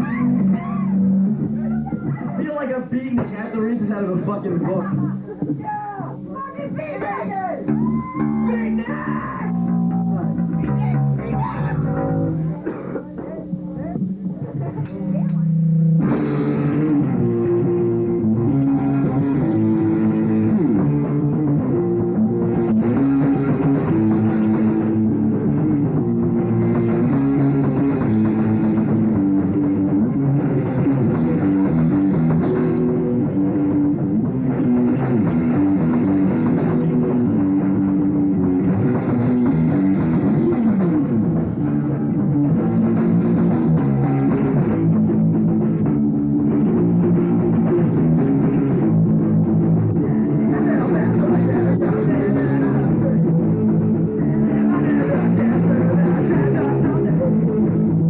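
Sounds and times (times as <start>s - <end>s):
bass guitar: 0.0s - 58.0s
distorted electric guitar chords: 0.0s - 58.0s
drum kit: 0.0s - 58.0s.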